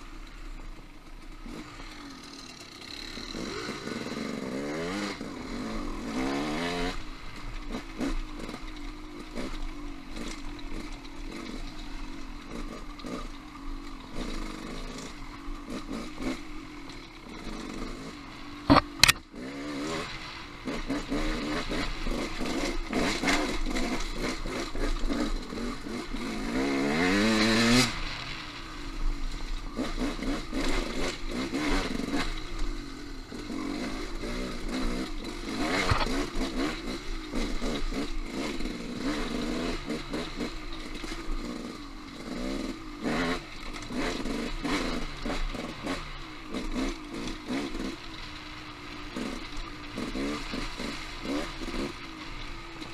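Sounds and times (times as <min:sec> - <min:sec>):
motorcycle engine revving: 0:01.1 - 0:52.9.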